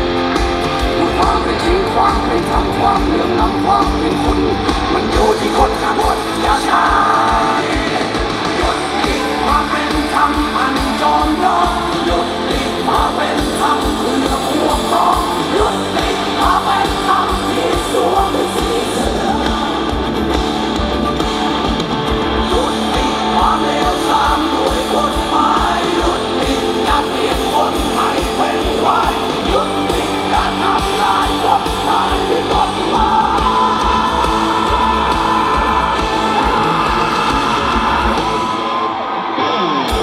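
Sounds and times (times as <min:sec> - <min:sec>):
drums beating: 0:00.0 - 0:39.1
electric and acoustic guitars: 0:00.0 - 0:40.0
person singing: 0:00.7 - 0:20.5, 0:22.4 - 0:40.0.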